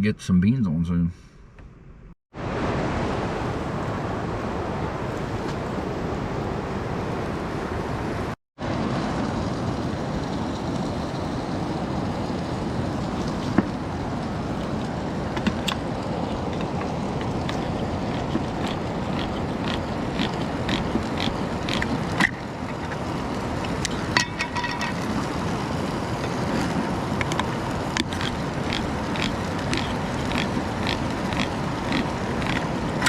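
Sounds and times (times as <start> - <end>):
river water rushing: 2.4 - 33.0.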